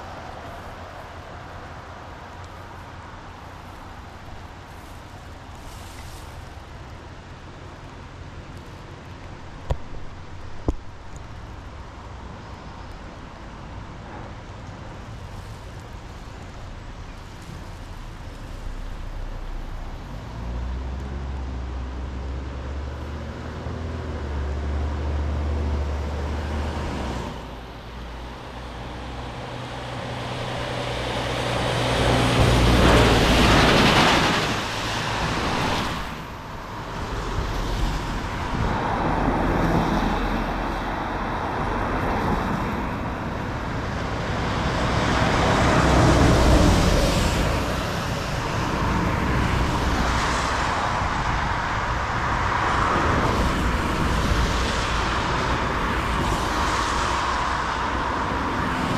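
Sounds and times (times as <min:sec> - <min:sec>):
tyre noise of passing vehicles: 0:00.0 - 0:58.9
vehicle engine droning: 0:08.6 - 0:58.9.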